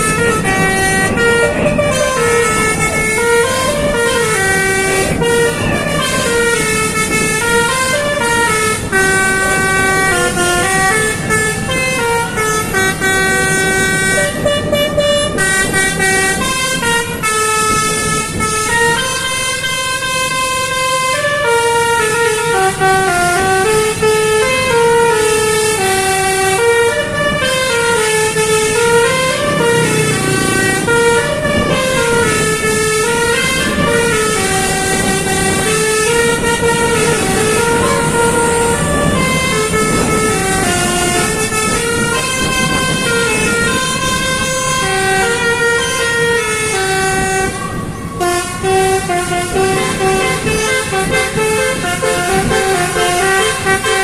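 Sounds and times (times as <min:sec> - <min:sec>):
multi-tone bus horn melody: 0:00.0 - 0:54.0.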